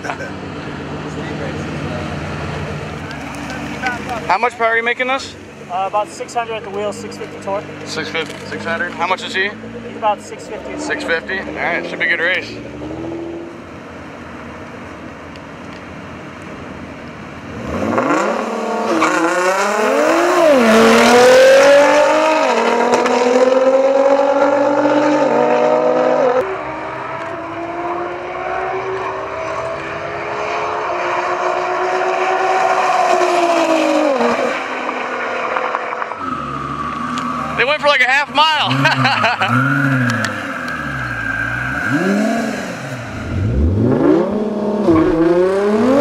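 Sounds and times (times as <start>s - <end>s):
car engines revving hard: 0.0s - 14.5s, 17.3s - 46.0s.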